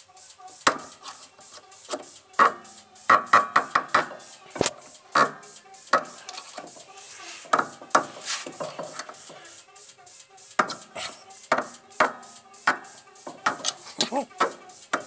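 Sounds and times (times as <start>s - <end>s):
suspension squeaking and clicking: 0.0s - 15.0s.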